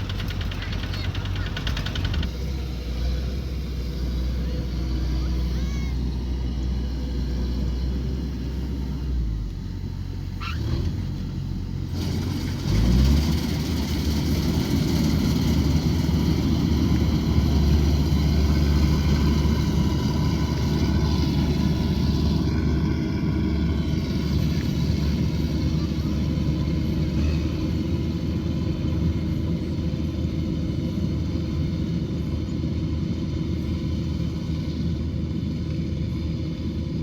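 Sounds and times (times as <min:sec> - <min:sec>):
harvester engine running: 0:00.0 - 0:37.0.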